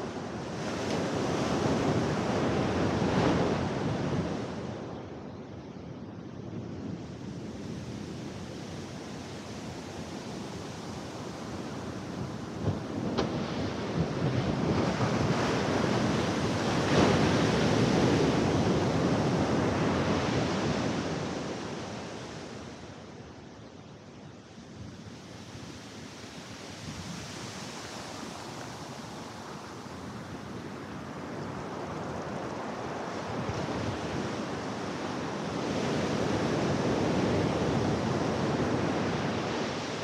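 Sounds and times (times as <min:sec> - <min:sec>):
ocean surf breaking on beach: 0:00.0 - 0:04.9, 0:07.3 - 0:23.0, 0:25.0 - 0:40.0.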